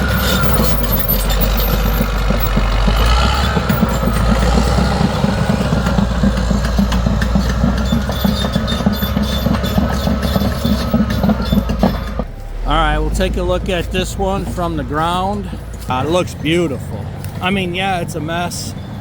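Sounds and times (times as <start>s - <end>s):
dense rapid rattle: 0.0s - 16.8s
bulldozer diesel engine running: 0.0s - 19.0s.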